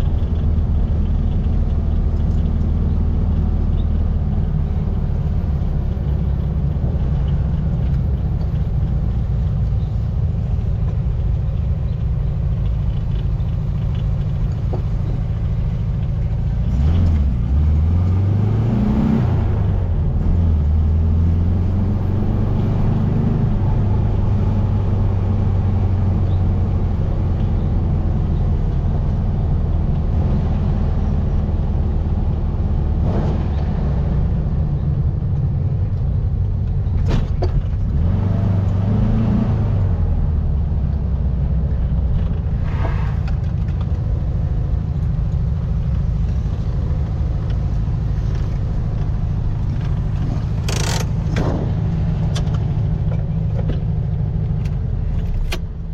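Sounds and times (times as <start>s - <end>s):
car engine droning: 0.0s - 55.9s.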